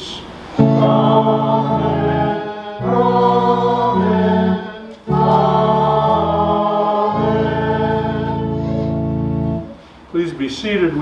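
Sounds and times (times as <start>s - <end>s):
congregation singing: 0.0s - 9.8s
instrumental accompaniment: 0.6s - 10.0s.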